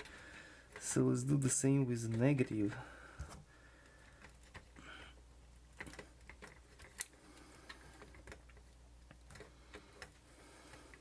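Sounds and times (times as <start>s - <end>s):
small clicks and taps of wire: 0.0s - 11.0s.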